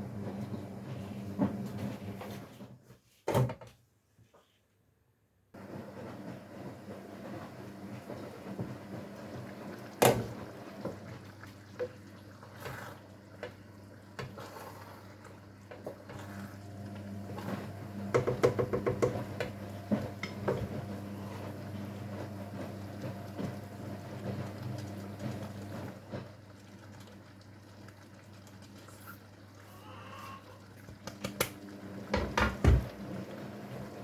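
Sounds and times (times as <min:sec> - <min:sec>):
washing machine humming: 0:00.0 - 0:02.9, 0:05.5 - 0:34.0.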